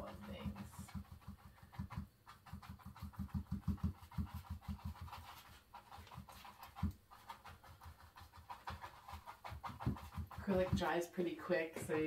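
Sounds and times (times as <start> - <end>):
paintbrush dabbing on canvas: 0.0 - 12.0.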